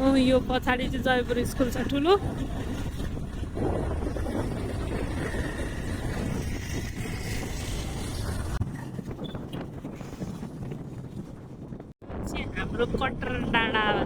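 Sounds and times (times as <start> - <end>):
motorcycle engine and road rumble: 0.0 - 12.3
wind rushing over microphone: 0.0 - 14.0.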